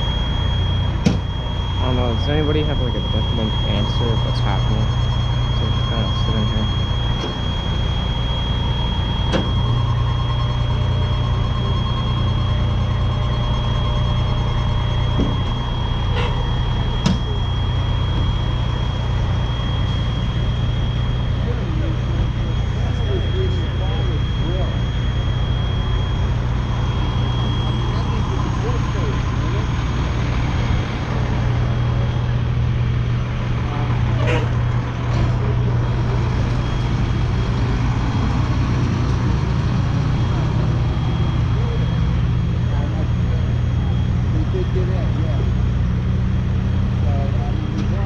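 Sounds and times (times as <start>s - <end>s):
steady high-pitched tone: 0.0s - 48.0s
vehicle engine idling: 0.0s - 48.0s.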